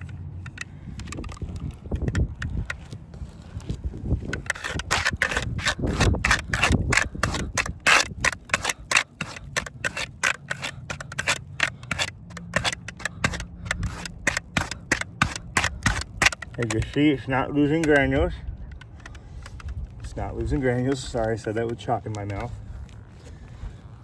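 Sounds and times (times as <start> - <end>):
scrubbing on roof shingles: 0.0 - 24.0.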